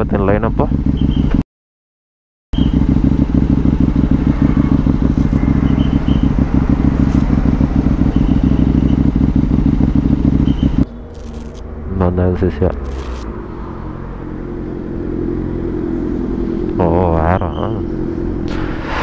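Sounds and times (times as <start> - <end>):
motorcycle engine idling: 0.0 - 1.4, 2.6 - 18.4.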